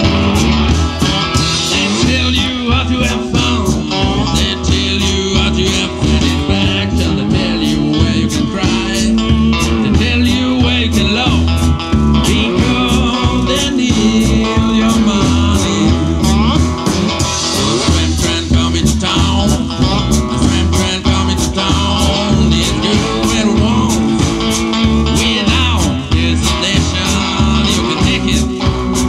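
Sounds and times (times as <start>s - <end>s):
cigar-box guitar: 0.0s - 29.0s
drum kit beat: 0.0s - 29.0s
live blues band: 0.0s - 29.0s
person singing into microphone: 0.0s - 29.0s.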